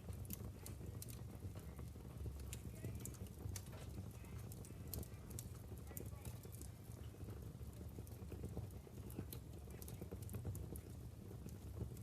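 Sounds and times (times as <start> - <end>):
fire crackling and popping: 0.0 - 12.0
low rumble of fire: 0.0 - 12.0.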